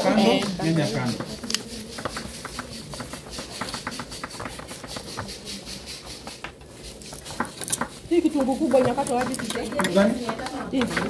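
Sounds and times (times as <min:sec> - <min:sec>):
knife chopping on wooden board: 0:00.2 - 0:11.0.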